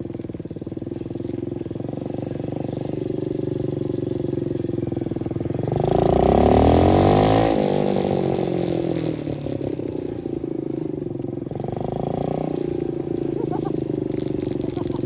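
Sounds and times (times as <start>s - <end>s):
dirt bike engines running: 0.0s - 15.0s.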